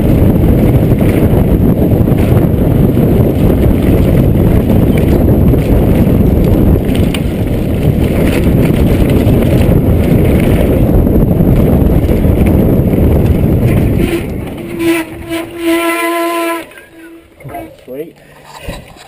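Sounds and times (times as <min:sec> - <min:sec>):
bike rattling over bumps: 0:00.0 - 0:19.0
wind buffeting microphone: 0:00.0 - 0:19.0.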